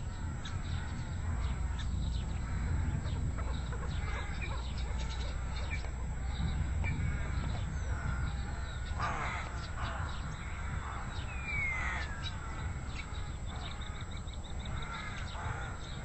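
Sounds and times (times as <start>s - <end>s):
harsh squabbling bird calls: 0.0s - 16.0s
steady low rumble: 0.0s - 16.0s.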